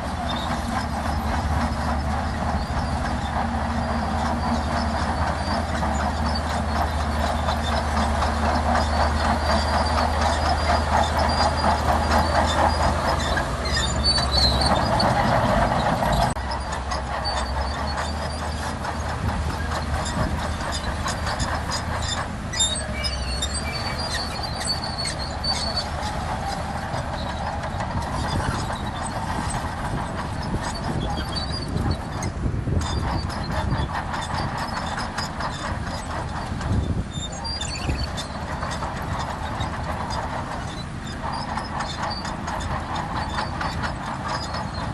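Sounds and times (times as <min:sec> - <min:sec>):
bulldozer diesel engine running: 0:00.0 - 0:44.9
steel tracks clattering and squealing: 0:00.0 - 0:44.9.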